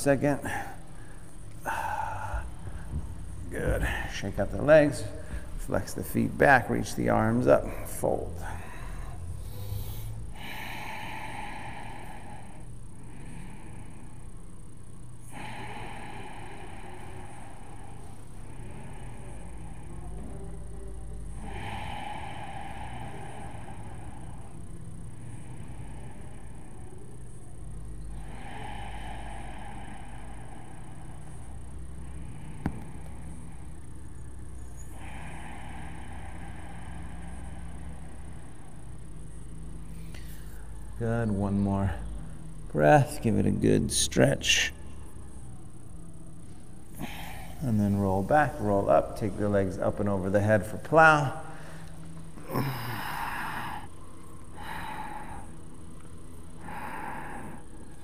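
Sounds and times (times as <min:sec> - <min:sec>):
person breathing: 0:00.0 - 0:41.0, 0:44.6 - 0:58.0
faint low hum: 0:00.0 - 0:58.0
low room rumble: 0:00.0 - 0:58.0.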